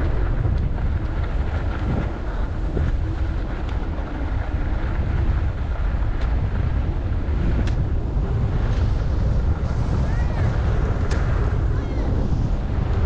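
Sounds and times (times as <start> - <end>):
skis gliding over snow: 0.0 - 13.0
wind rumbling on microphone: 0.0 - 13.0.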